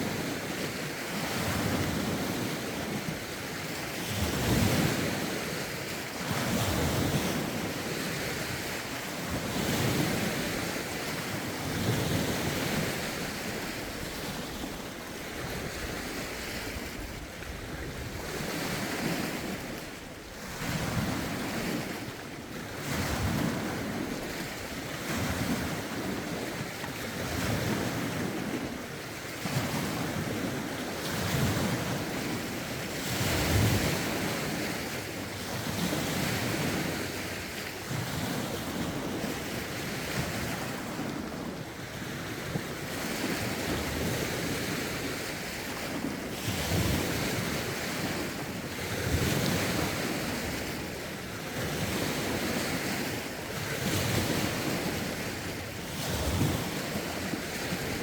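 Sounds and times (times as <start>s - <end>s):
lake waves lapping ashore: 0.0s - 58.0s
wind rumbling on microphone: 0.0s - 58.0s.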